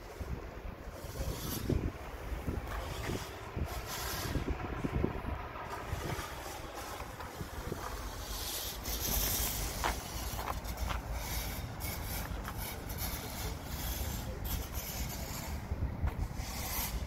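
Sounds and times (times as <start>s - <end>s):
passers-by voices: 0.0s - 17.0s
passing traffic rumble: 0.0s - 17.0s.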